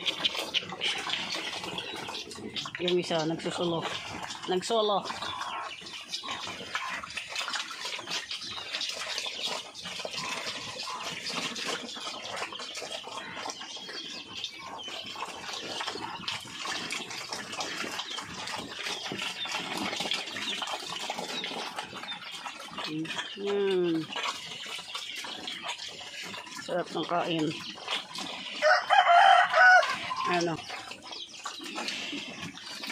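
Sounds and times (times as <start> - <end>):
pigs slurping watery feed: 0.0 - 32.9.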